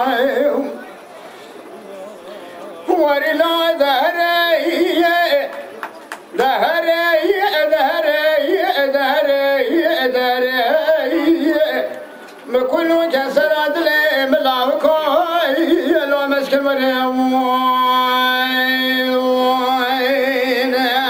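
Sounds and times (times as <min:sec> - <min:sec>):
man chanting unaccompanied song: 0:00.0 - 0:00.9, 0:02.8 - 0:21.0.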